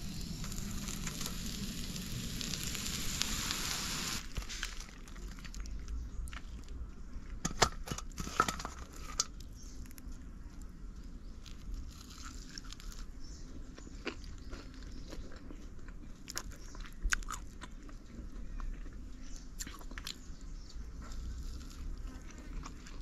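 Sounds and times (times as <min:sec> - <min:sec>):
crunching and chewing: 0:00.0 - 0:03.2, 0:04.2 - 0:23.0.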